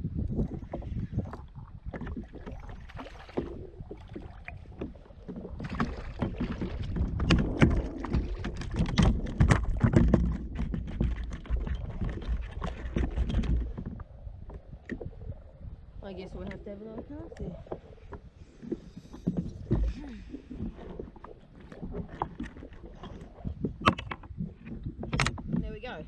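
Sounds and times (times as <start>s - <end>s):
low rumble of water and wind: 0.0s - 26.0s
knocks and clicks against kayak hull: 0.2s - 15.4s, 16.1s - 26.0s.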